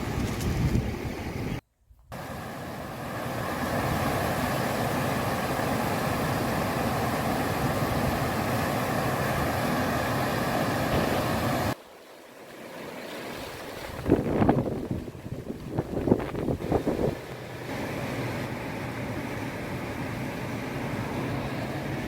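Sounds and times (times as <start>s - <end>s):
heavy rain and wind: 0.0s - 11.8s, 13.3s - 22.0s.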